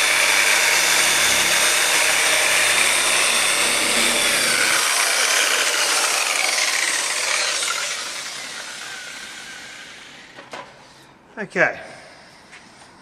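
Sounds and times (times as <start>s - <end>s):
polisher motor hum: 0.0s - 10.5s
polisher pad whirring down: 0.0s - 10.6s.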